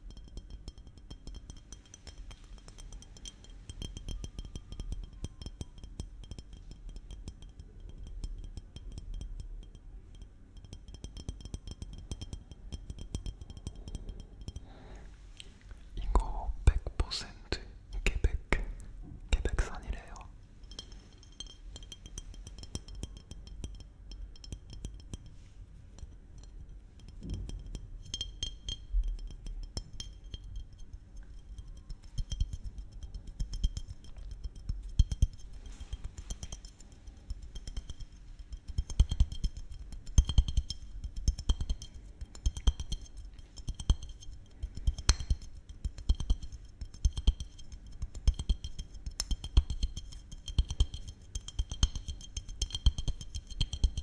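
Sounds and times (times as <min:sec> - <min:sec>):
fingernails tapping on glass bottle: 0:00.0 - 0:14.9, 0:18.0 - 0:54.0.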